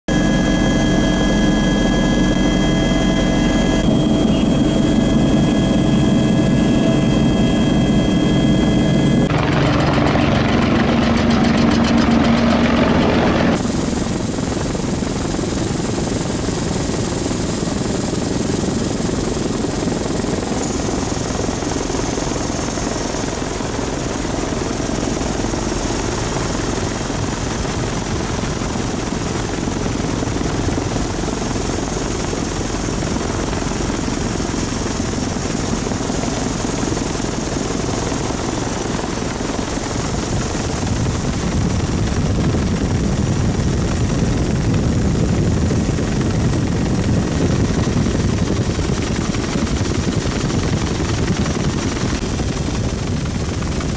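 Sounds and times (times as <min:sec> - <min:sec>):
helicopter rotor drone: 0:00.1 - 0:53.9
high turbine whine: 0:00.1 - 0:53.9.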